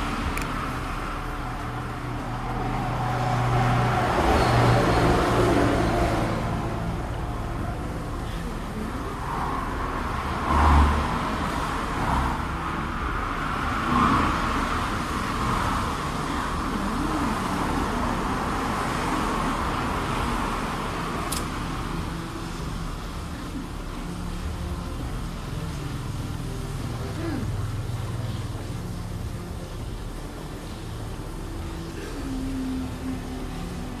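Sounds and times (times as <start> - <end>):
road traffic noise: 0.0 - 34.0
vehicle engine running: 0.0 - 34.0.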